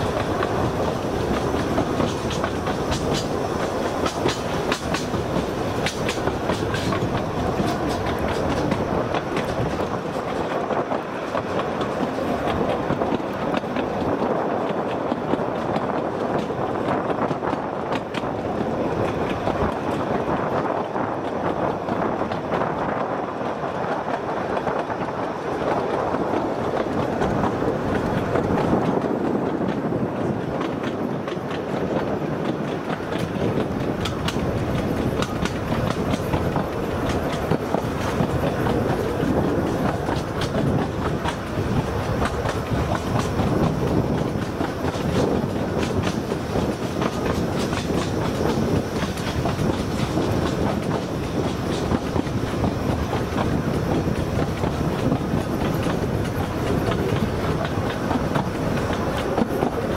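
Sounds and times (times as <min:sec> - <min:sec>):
sharp clicks of wheels on rails: 0:00.0 - 0:59.9
train wheels on track: 0:00.0 - 0:59.9.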